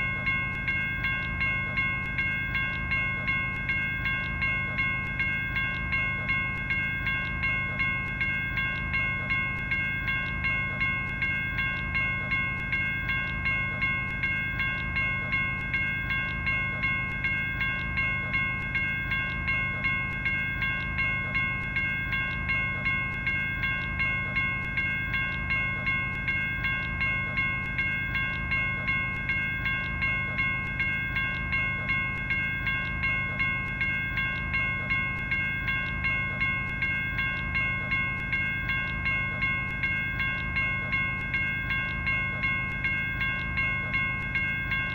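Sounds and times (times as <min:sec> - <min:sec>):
railroad crossing bell ringing: 0:00.0 - 0:44.9.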